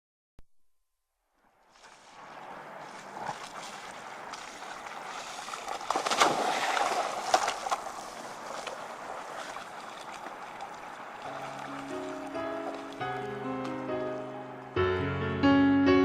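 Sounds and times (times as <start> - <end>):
rushing water-like noise: 1.6 - 14.8.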